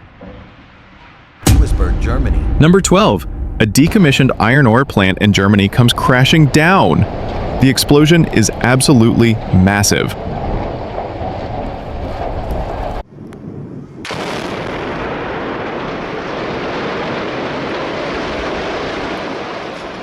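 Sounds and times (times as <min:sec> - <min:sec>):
demolition blast and collapse: 0:00.0 - 0:13.0, 0:14.0 - 0:20.0.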